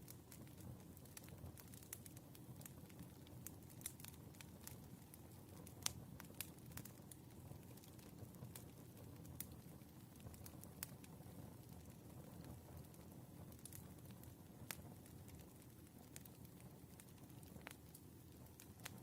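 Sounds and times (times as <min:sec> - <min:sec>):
firewood crackling and popping: 0:00.0 - 0:19.0
low rumble of fire: 0:00.0 - 0:19.0.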